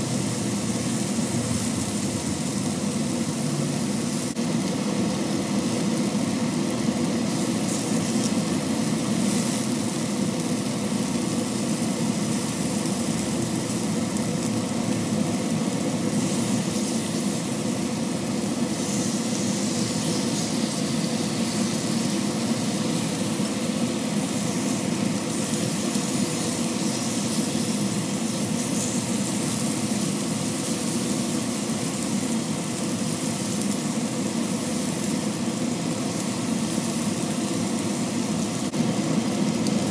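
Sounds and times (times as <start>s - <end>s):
meat sizzling on a griddle: 0.0s - 39.9s
steady mechanical hum: 0.0s - 39.9s.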